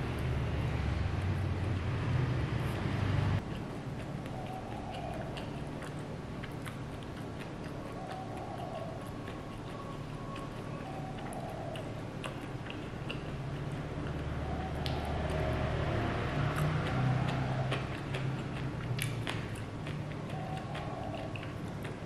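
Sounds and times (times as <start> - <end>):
chewing: 3.4 - 22.0.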